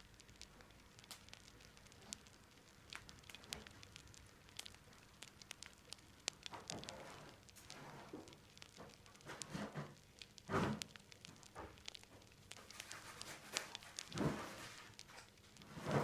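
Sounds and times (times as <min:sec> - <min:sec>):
faint small clicks and crackles: 0:00.0 - 0:16.0.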